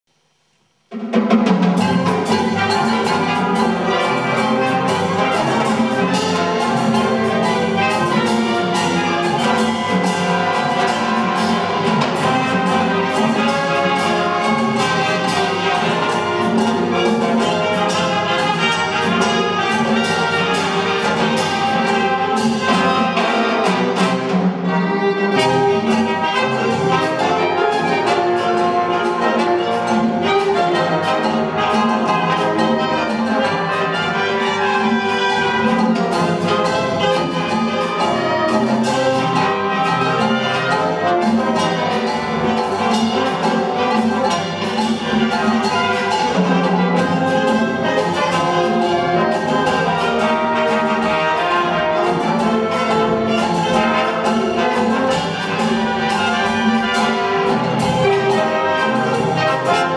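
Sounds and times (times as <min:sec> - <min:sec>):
conga drums: 0:00.2 - 0:59.9
brass band playing salsa: 0:00.3 - 0:59.9
sharp percussion strokes: 0:00.9 - 0:59.9.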